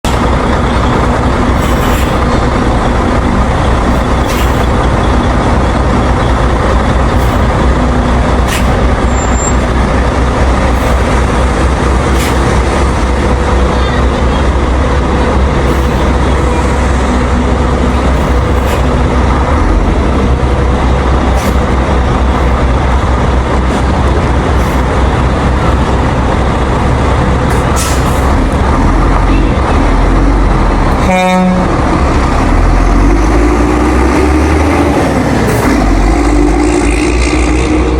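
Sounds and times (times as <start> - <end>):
bus engine rumbling: 0.0 - 37.9.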